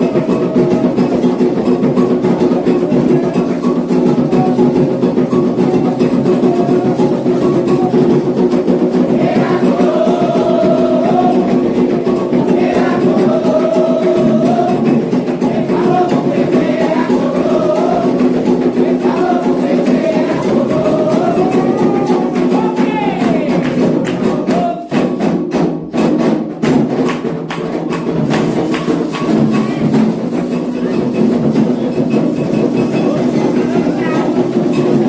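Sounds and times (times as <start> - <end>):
group singing: 0.0 - 25.6, 28.2 - 35.0
hand drumming: 0.0 - 35.0.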